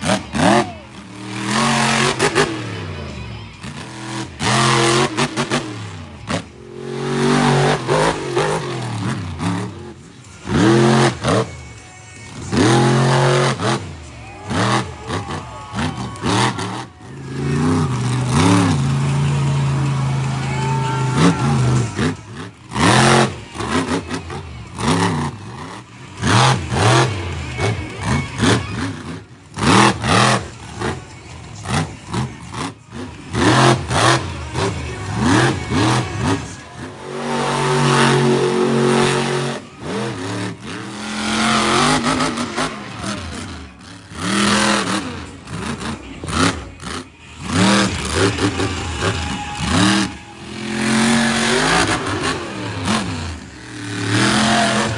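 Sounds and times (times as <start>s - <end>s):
monster truck engines revving: 0.0s - 54.9s.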